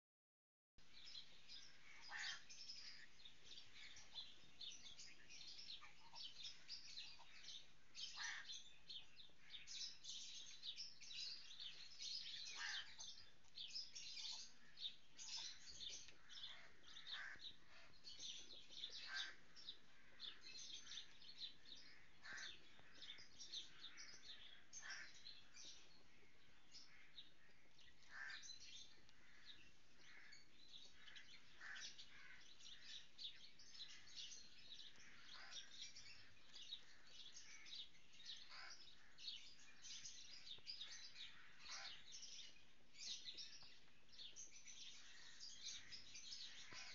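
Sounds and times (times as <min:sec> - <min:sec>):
small birds chirping: 0:00.8 - 0:46.9.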